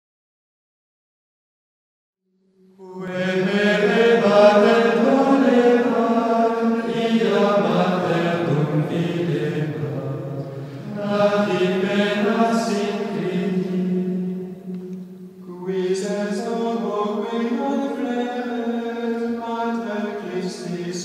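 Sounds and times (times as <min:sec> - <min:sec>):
chanted singing with long held notes: 0:02.6 - 0:21.0.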